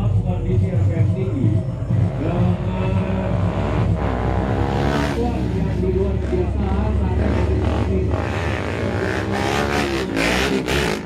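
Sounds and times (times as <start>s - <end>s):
motorcycle engine revving: 1.7s - 11.0s.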